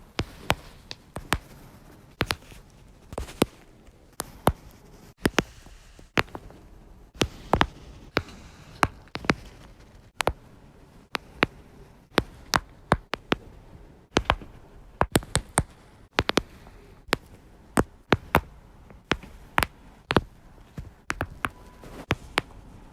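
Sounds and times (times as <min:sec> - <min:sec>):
back joints cracking: 0:00.0 - 0:22.6.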